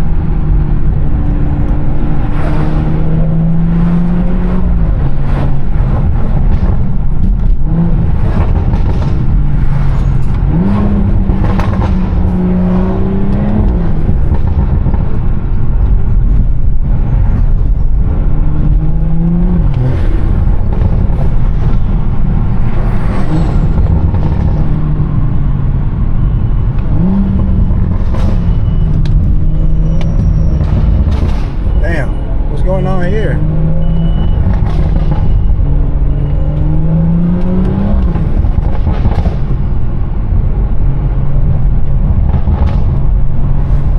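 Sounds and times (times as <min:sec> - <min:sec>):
car engine through loud exhaust: 0:00.0 - 0:43.9.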